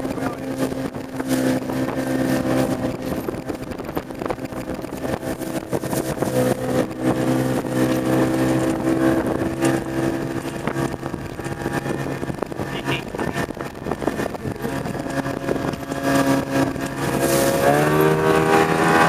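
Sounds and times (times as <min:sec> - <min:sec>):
outboard motor running: 0:00.0 - 0:19.0
wind on microphone: 0:00.0 - 0:19.0.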